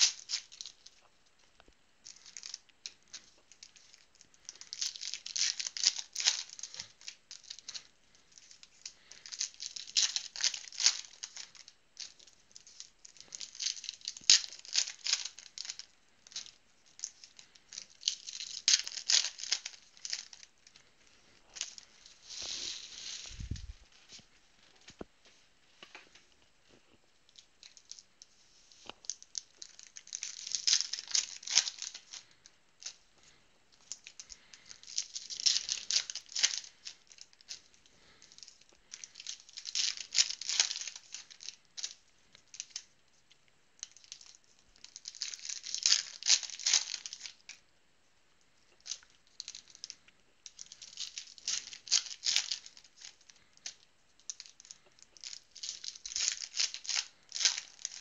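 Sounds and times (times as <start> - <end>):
card pack wrappers crinkling and tearing: 0.0 - 25.0, 27.3 - 42.9, 43.8 - 47.6, 48.7 - 58.0.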